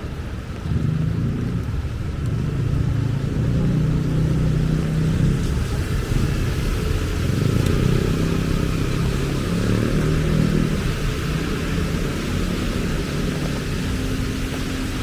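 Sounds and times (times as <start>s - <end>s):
heavy rain hissing: 0.0s - 15.0s
vehicle engine humming: 0.0s - 15.0s.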